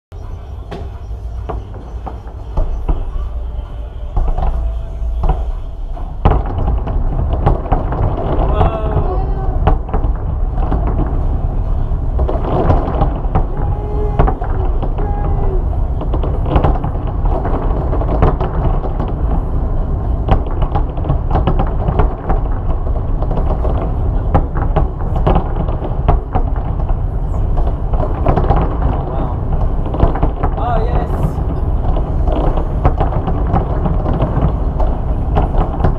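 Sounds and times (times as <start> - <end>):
low rumble: 0.1 - 35.9
fireworks cracks and bangs: 0.2 - 35.9.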